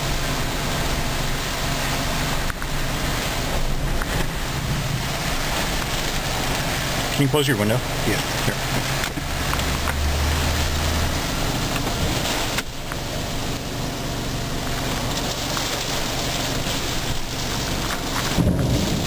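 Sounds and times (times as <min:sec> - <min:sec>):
car running noise: 0:00.0 - 0:19.0
rain on a car: 0:00.0 - 0:19.0.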